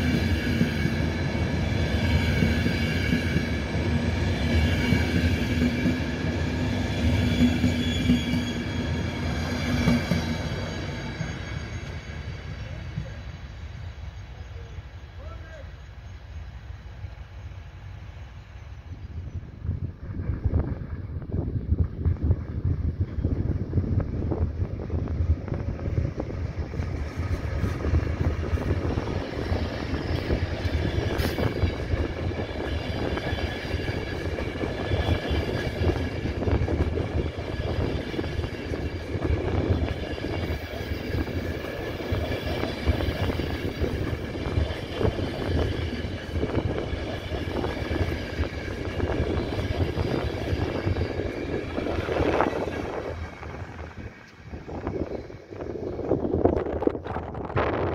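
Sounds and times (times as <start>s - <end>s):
train rail rumble: 0.0s - 57.9s.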